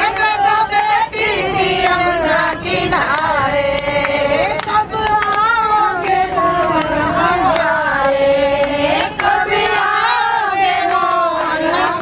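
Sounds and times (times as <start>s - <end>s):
hand claps: 0.0s - 1.0s, 1.8s - 12.0s
women singing in unison: 0.0s - 12.0s.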